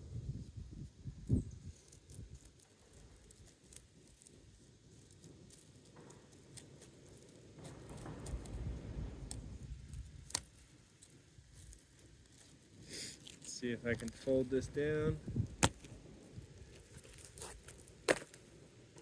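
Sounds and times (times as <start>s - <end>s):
clicks and scraping of shingle: 1.7s - 19.0s.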